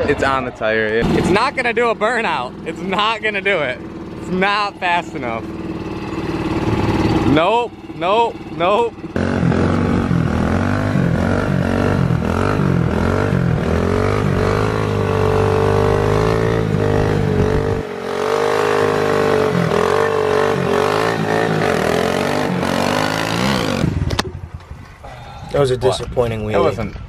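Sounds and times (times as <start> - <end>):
small motorbike engine revving: 1.0 - 24.5.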